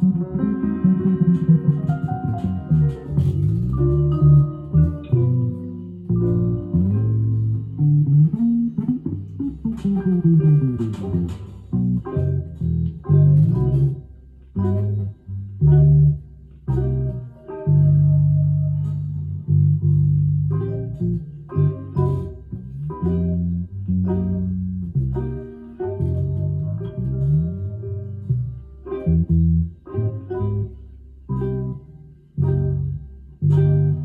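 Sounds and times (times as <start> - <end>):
guitar plucked single notes: 0.0 - 34.0.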